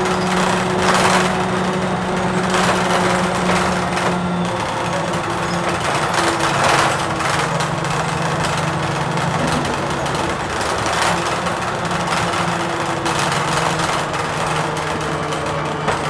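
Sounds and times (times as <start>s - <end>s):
bus body rattles: 0.0s - 16.0s
bus engine droning: 0.0s - 16.0s.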